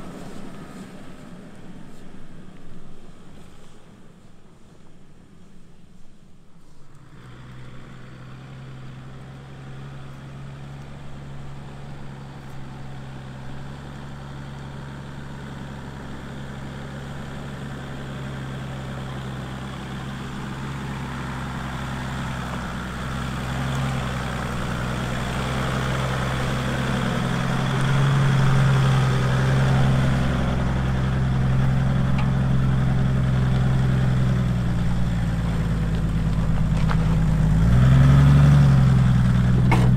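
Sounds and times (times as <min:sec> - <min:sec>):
diesel engine running at low revs: 0:06.5 - 0:39.9.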